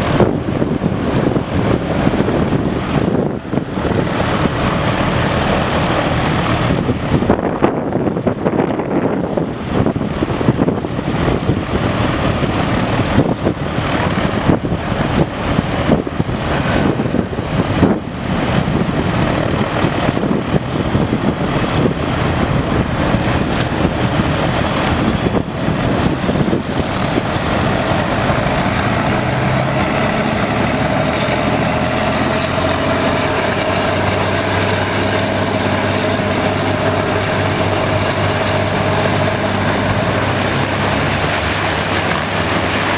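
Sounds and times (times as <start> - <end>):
high whine: 0.0 - 42.9
hovercraft engine drone: 0.0 - 42.9
wind buffeting microphone: 0.0 - 42.9.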